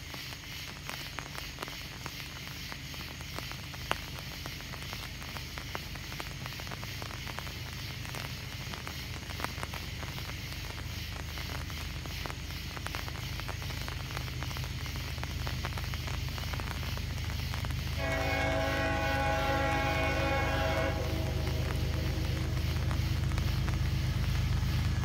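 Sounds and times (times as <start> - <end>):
rain pattering close by: 0.0 - 25.0
train rumbling: 2.9 - 25.0.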